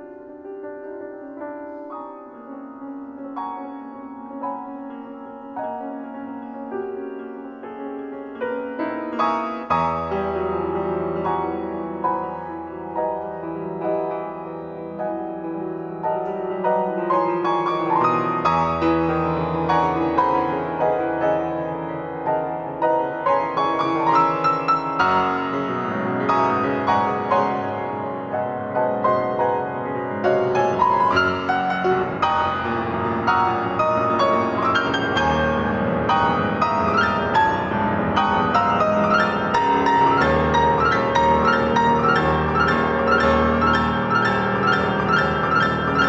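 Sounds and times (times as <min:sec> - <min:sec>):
solo piano playing chords: 0:00.0 - 0:46.0.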